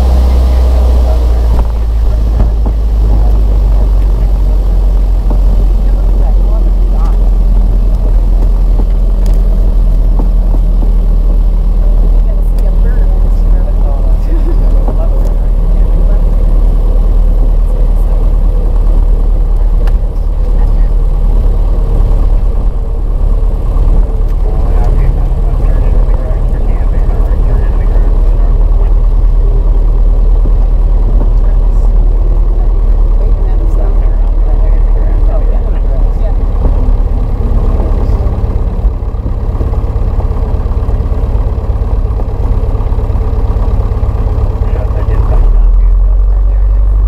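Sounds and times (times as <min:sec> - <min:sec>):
propeller aircraft engine drone: 0:00.0 - 0:47.0
rushing noise: 0:00.0 - 0:47.0.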